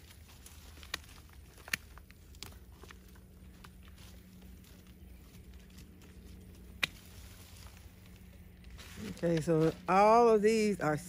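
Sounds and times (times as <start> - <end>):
low steady hum: 0.0 - 11.0
rustling of dry stems: 0.0 - 11.0.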